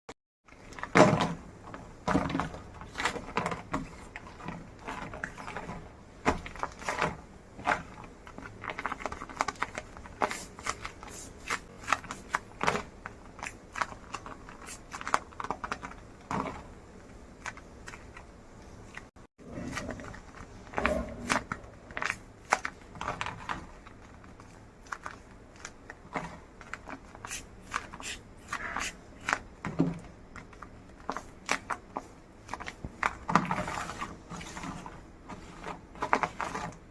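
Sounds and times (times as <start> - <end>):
paper crafts crinkling and rustling: 0.5 - 36.9.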